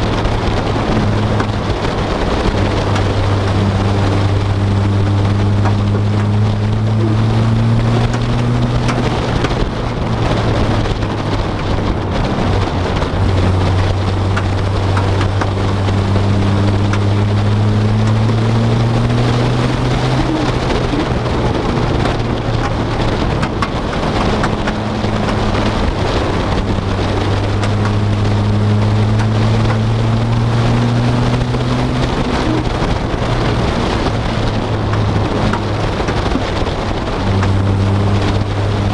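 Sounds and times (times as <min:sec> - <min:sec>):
road noise hiss: 0:00.0 - 0:38.9
vehicle engine accelerating: 0:00.0 - 0:38.9.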